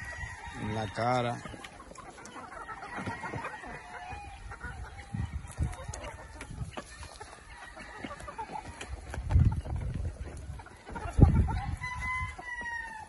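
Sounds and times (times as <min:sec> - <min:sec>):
young roosters clucking and calling: 0:00.0 - 0:13.0.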